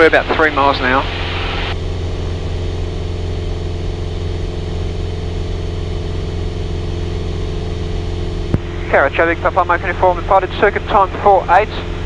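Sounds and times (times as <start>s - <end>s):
airplane engine drone in cockpit: 0.0s - 12.0s.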